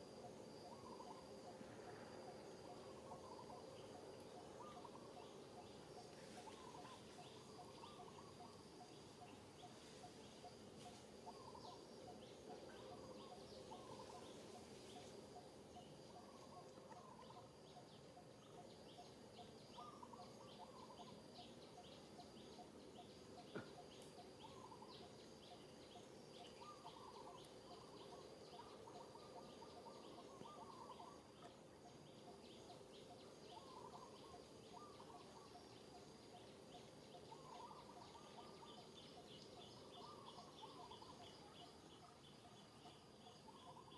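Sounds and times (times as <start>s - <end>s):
birds chirping: 3.2s - 10.7s, 15.8s - 43.9s.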